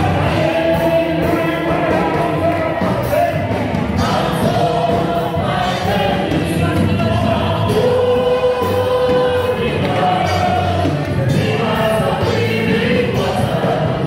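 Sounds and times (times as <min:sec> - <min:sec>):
congregation singing: 0:00.0 - 0:14.0.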